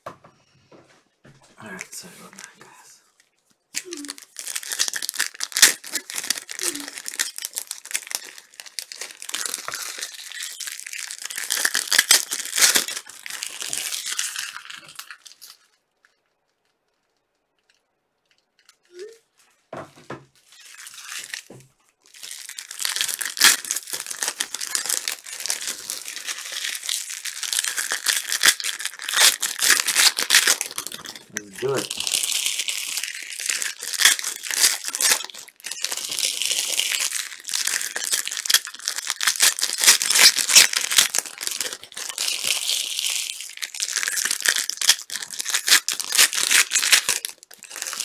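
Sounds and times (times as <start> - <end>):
card pack wrappers crinkling: 3.7 - 19.2, 20.4 - 48.0.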